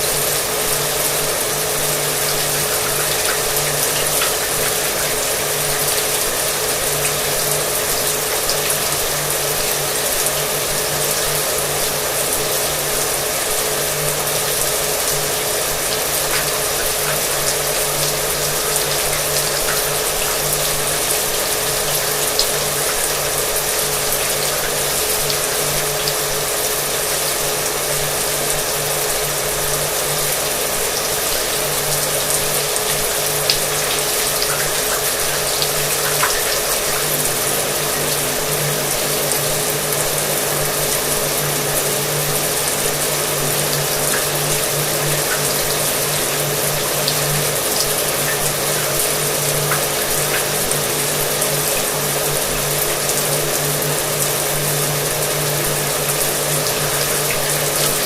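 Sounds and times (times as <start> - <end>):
shower water running: 0.0 - 58.0.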